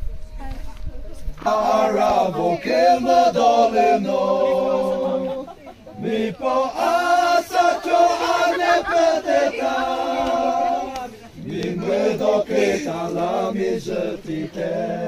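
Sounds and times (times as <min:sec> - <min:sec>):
song with long held vocals: 0:01.4 - 0:15.0.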